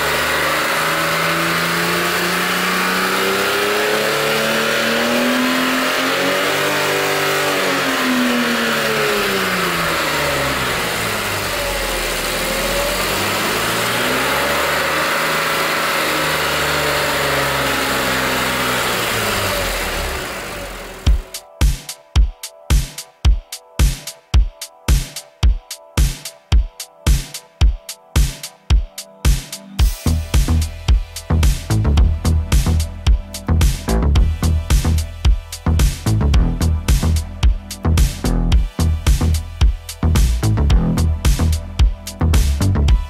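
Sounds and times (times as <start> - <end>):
car engine revving: 0.0 - 21.6, 29.8 - 43.0.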